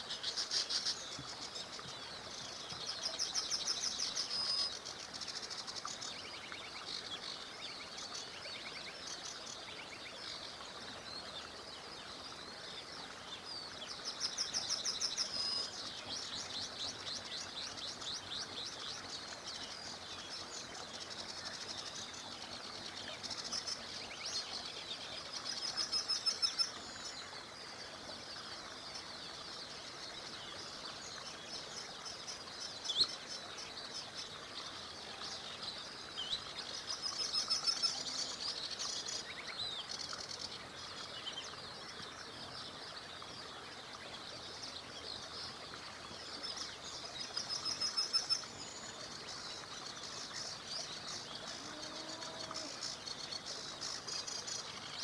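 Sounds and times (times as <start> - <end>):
small river rushing: 0.0 - 55.0
songbirds singing rapid trills: 0.0 - 55.0.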